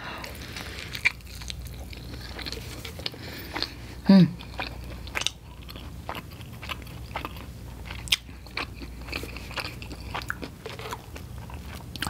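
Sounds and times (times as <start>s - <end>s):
person chewing food: 0.2s - 12.0s.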